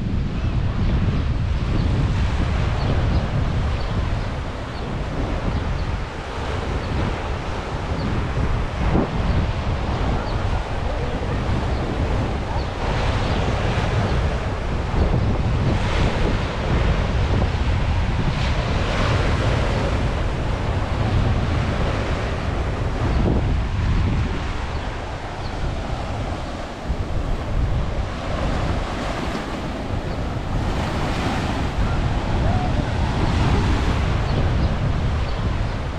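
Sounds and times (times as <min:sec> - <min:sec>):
wind buffeting microphone: 0:00.0 - 0:35.9
sea waves washing onto shore: 0:01.3 - 0:35.9.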